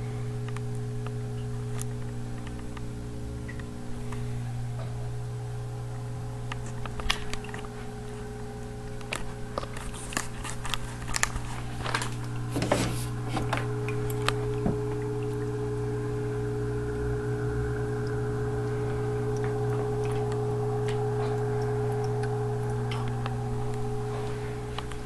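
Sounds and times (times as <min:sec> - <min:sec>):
aquarium equipment hum: 0:00.0 - 0:25.0.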